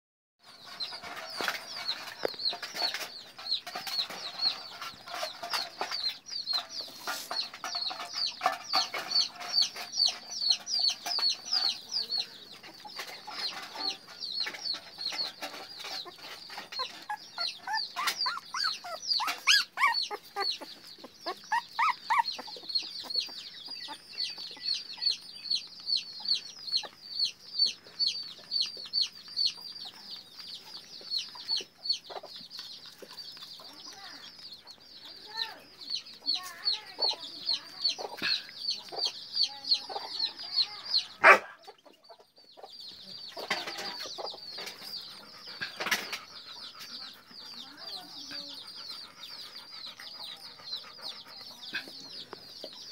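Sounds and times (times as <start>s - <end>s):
young animal peeping: 0.4s - 52.9s.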